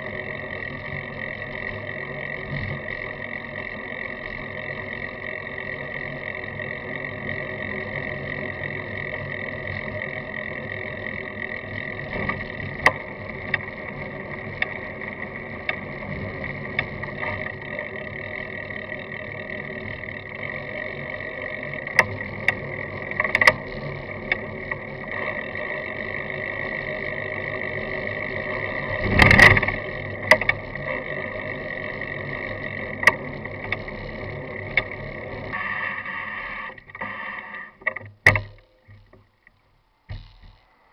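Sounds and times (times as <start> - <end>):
bicycle frame rattling: 0.0 - 35.6
bicycle tyre whirr on road: 0.0 - 40.9.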